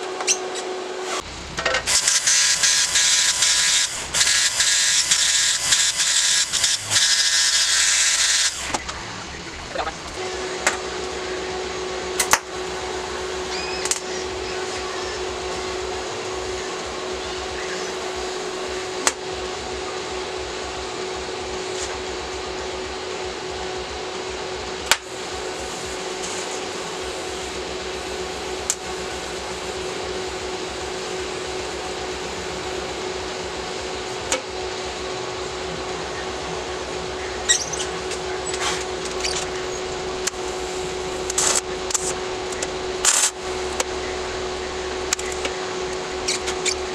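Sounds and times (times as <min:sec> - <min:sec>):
welding arc humming and hissing: 0:00.0 - 0:46.9.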